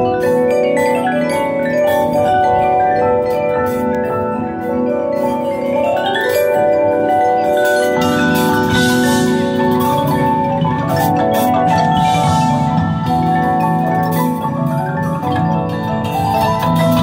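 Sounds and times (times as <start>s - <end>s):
marimbas vibraphones and chimes: 0.0s - 17.0s
sharp percussion strikes: 0.0s - 17.0s.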